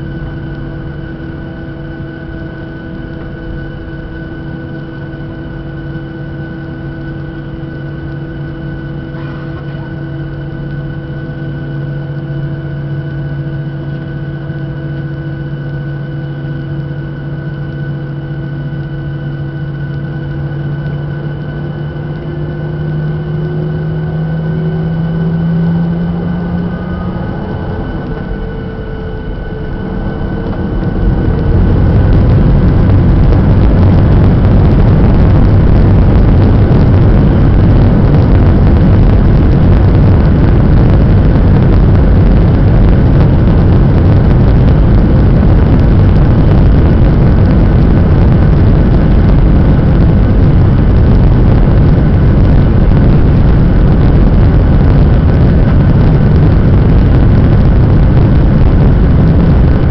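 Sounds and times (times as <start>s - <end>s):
jet engines whining and roaring: 0.0s - 59.9s.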